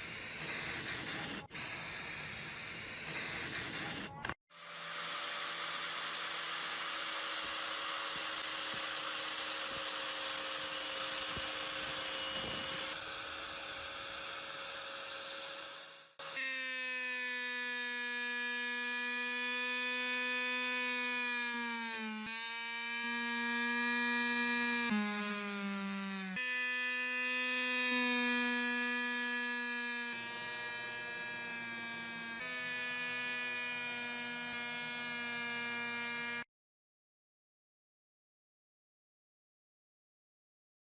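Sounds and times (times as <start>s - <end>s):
power tool motor humming: 0.0s - 36.5s.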